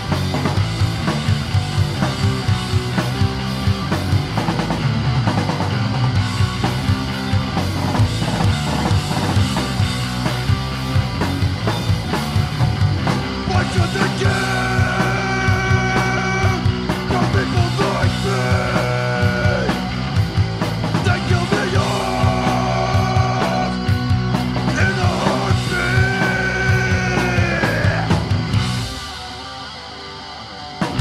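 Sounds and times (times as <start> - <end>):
rapid drum-kit hits: 0.0 - 29.7
bass: 0.0 - 31.0
distorted guitars: 0.0 - 31.0.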